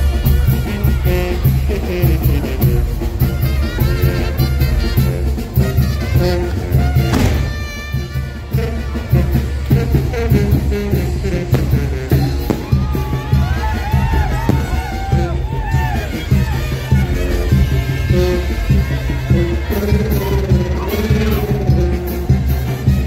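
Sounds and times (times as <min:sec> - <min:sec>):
brass band dance music: 0:00.0 - 0:23.0.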